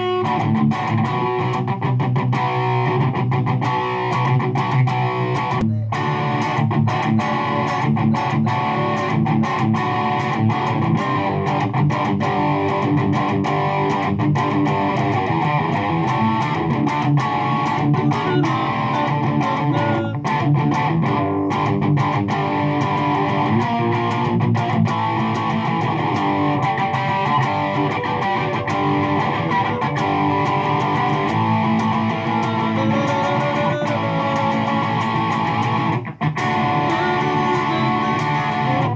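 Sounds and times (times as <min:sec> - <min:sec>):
electric guitar through amplifier: 0:00.0 - 0:38.9.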